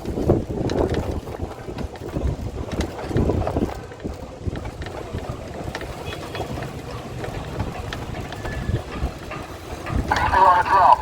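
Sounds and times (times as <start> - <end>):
light rattles and clicks: 0.0 - 11.0
tram running noise: 0.0 - 11.0
wind buffeting microphone: 0.0 - 11.0.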